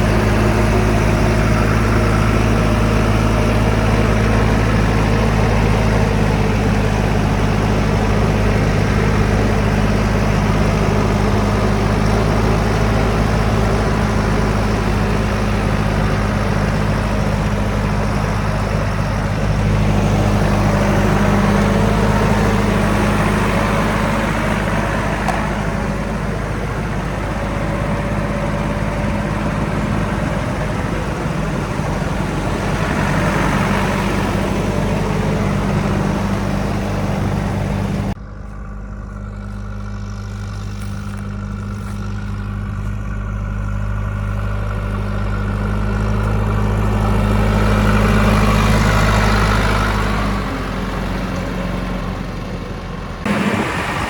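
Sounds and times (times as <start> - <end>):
diesel engine running: 0.0 - 54.0
rough working noise: 0.0 - 54.0.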